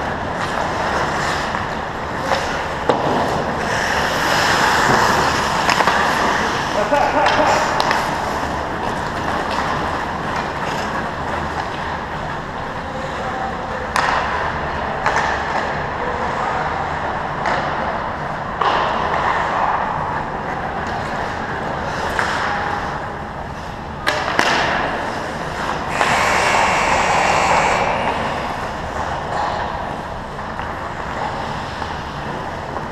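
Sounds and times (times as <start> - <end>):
hockey sticks and puck clacking: 0.0 - 32.9
skates scraping on ice: 0.0 - 32.9.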